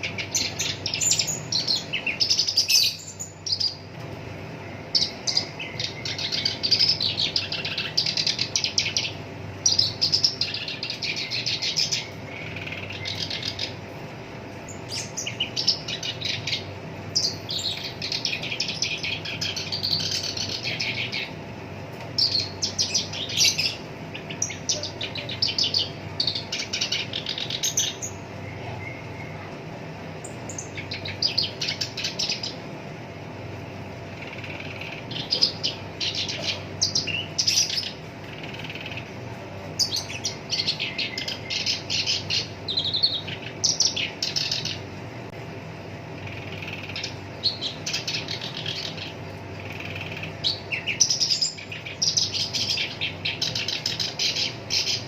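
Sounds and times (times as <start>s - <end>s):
reed warbler chattering song: 0.0s - 55.0s.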